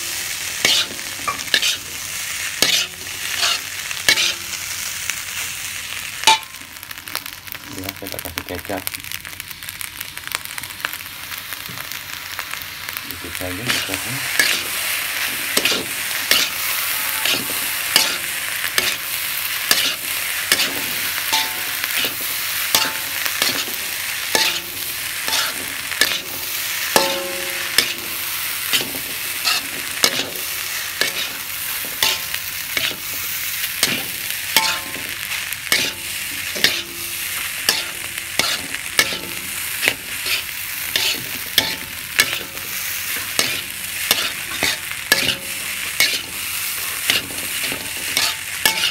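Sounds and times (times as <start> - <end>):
rice sizzling in a wok: 0.0 - 48.9
spatula scraping a wok: 0.1 - 4.9, 13.7 - 48.9.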